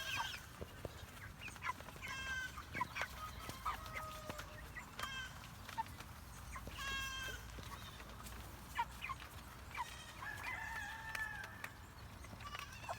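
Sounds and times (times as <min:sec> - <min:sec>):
chicken drawn-out calls: 0:00.0 - 0:00.6, 0:01.5 - 0:11.7
chickens clucking: 0:00.0 - 0:12.9.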